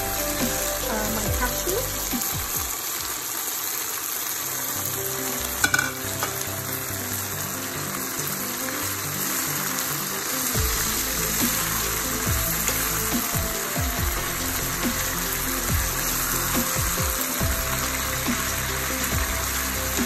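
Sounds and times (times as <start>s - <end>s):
food sizzling in frying pan: 0.0s - 20.0s.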